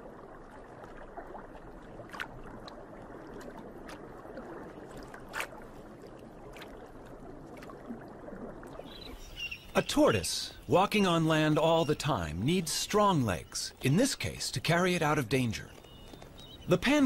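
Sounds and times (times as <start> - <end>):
underwater ambience: 0.0 - 17.0.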